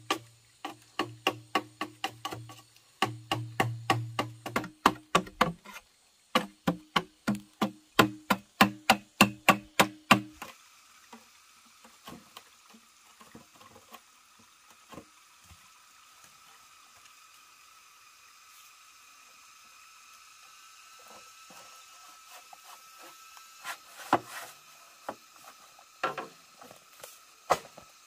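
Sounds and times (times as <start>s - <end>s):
light hiss: 0.0s - 28.0s.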